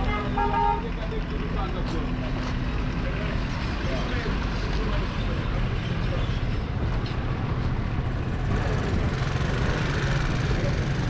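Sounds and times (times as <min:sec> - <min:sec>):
vehicle engines in slow traffic: 0:00.0 - 0:11.0.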